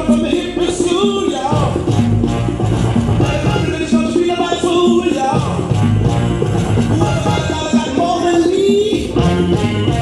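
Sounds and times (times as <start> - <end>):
music with bass and beat: 0.0 - 10.0.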